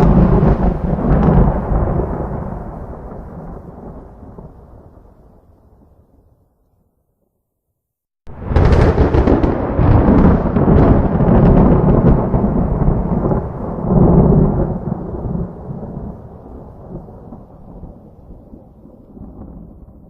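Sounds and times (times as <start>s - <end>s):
thunderclap with rolling rumble: 0.0s - 6.0s, 8.3s - 20.0s.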